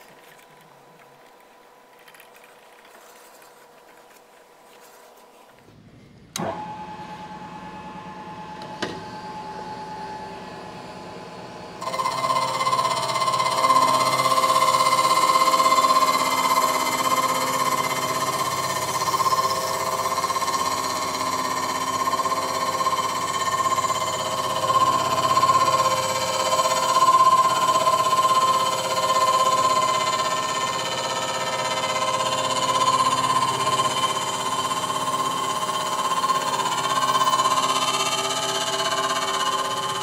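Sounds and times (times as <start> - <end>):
milling machine humming: 6.3 - 40.0
mill cutting metal with ringing whine: 6.4 - 40.0.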